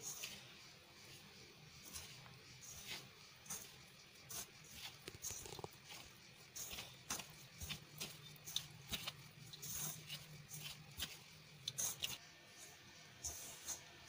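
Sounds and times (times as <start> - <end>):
hand rubbing flour in metal bowl: 0.0 - 14.0.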